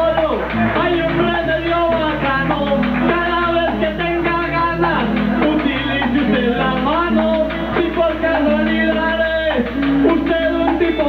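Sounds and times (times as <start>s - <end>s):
guitars and keyboard playing: 0.0s - 11.0s.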